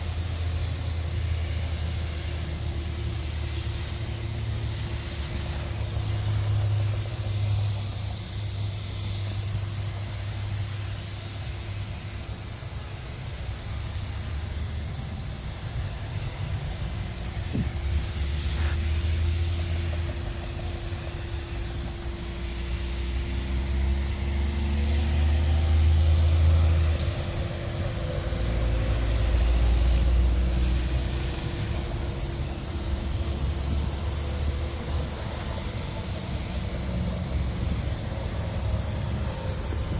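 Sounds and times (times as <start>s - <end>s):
paint spray gun hissing: 0.0s - 39.9s.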